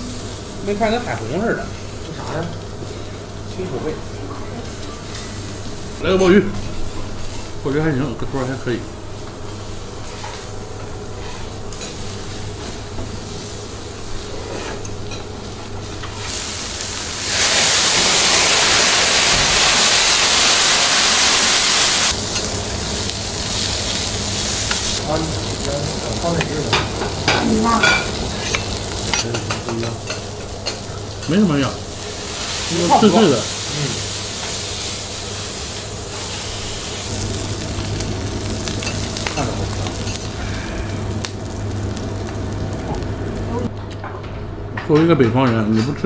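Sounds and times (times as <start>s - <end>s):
food sizzling on a griddle: 0.0s - 43.7s
loud flambe hiss: 0.0s - 43.7s.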